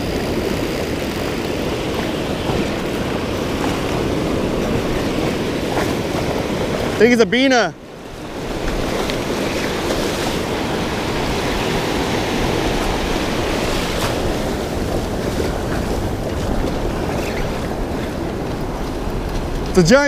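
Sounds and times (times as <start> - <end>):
ocean surf washing: 0.0 - 20.0
wind buffeting microphone: 0.0 - 20.0.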